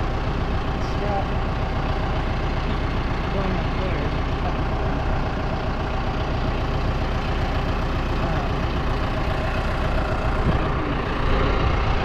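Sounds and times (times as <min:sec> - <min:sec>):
farm machinery engine idling: 0:00.0 - 0:12.0.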